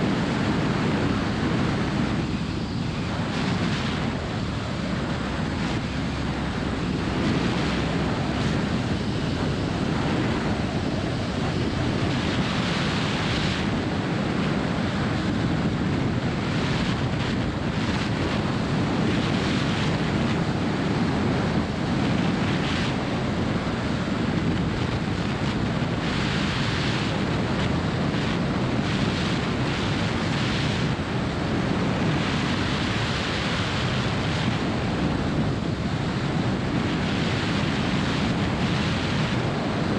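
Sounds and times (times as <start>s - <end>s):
aircraft engine and propeller drone: 0.0s - 39.9s
wind buffeting camera: 0.0s - 39.9s.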